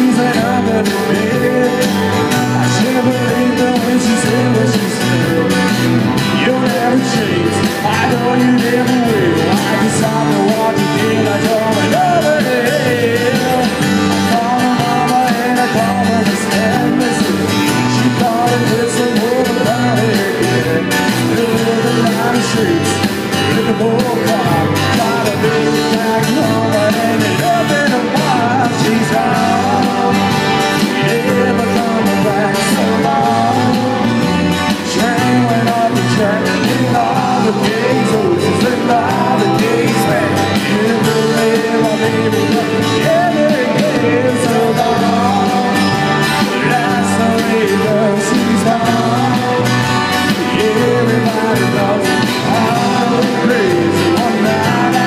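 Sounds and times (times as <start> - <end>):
drum kit: 0.0 - 55.0
electric bass: 0.0 - 55.0
electric guitar: 0.0 - 55.0
person singing lead vocal: 0.0 - 55.0.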